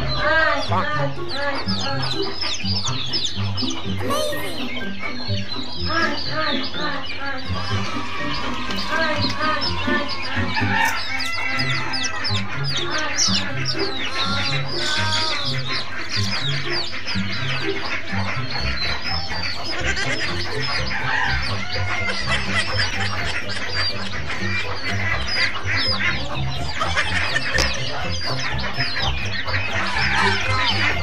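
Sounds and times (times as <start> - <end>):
background music: 0.0 - 31.0
chicks cheeping: 0.0 - 31.0.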